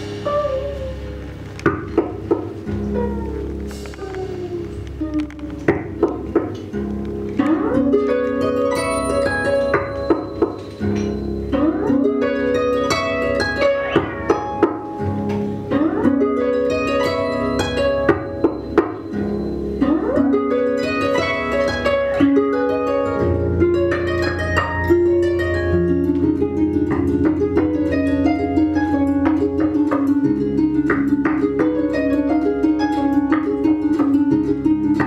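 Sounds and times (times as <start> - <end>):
harps plucked: 0.0 - 35.0.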